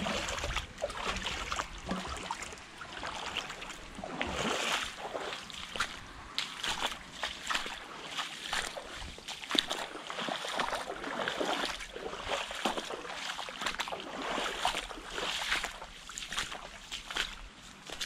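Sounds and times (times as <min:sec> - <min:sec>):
boots splashing through water: 0:00.0 - 0:18.0.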